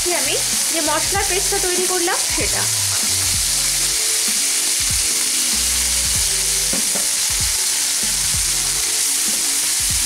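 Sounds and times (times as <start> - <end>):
spice paste sizzling in oil: 0.0 - 10.0.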